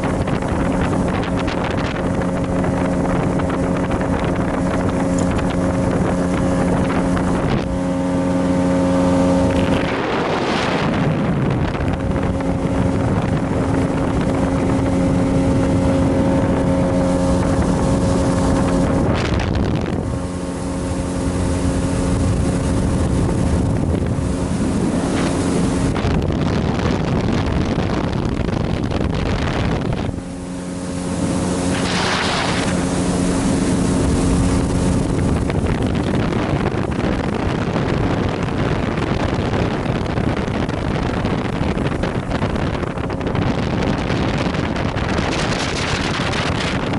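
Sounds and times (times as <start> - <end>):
boat engine running: 0.0 - 46.9
wind noise on microphone: 0.0 - 46.9.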